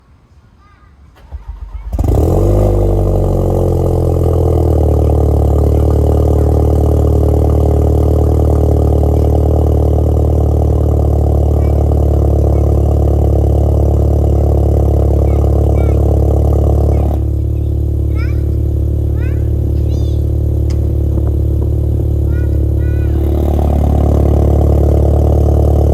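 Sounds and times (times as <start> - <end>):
engine exhaust idling: 1.2 - 25.9.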